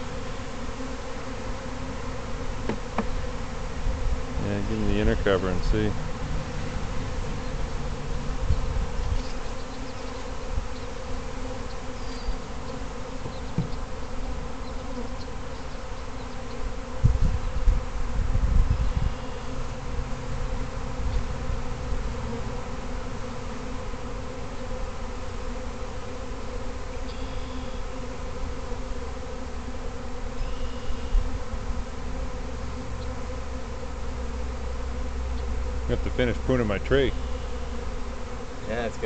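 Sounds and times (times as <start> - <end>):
honey bees buzzing: 0.0 - 39.0.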